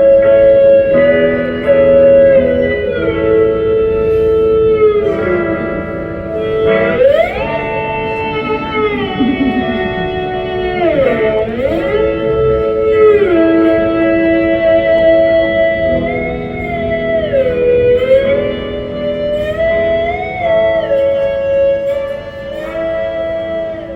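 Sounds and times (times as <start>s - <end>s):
electric guitar chords sliding: 0.0s - 23.9s.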